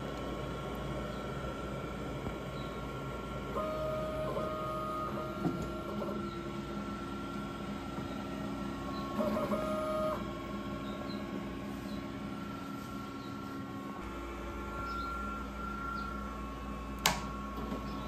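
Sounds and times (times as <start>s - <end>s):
printer motors and fans whining: 0.0s - 18.0s.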